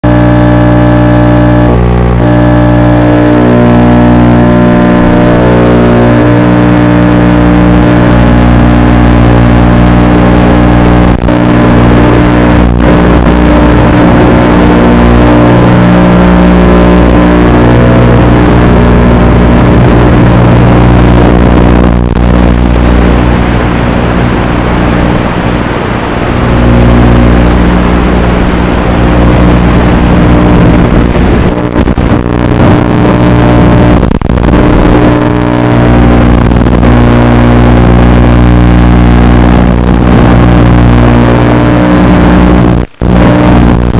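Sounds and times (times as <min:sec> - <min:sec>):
drone motors buzzing: 0:00.0 - 0:43.9.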